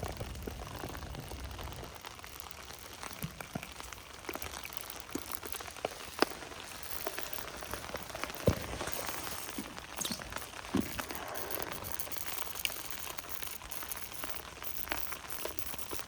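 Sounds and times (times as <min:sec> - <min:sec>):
light rain patter: 0:00.0 - 0:16.0.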